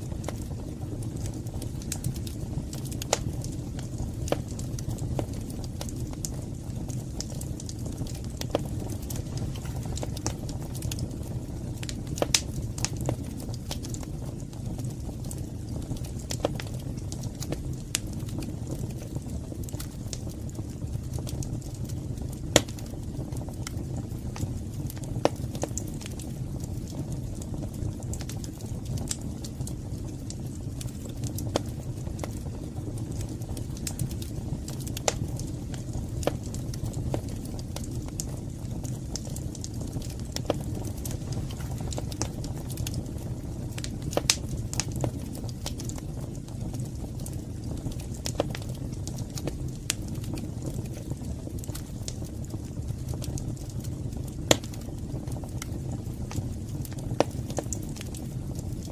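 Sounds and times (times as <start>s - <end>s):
fire crackling and popping: 0.0s - 58.9s
low rumble of flames: 0.0s - 58.9s.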